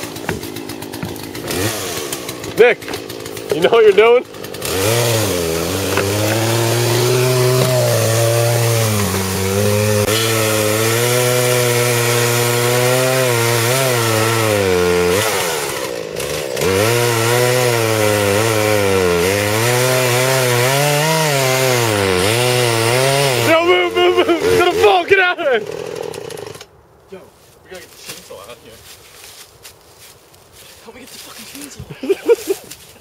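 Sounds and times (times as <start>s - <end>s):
chainsaw cutting into tree trunk: 0.0s - 26.7s, 31.5s - 32.9s.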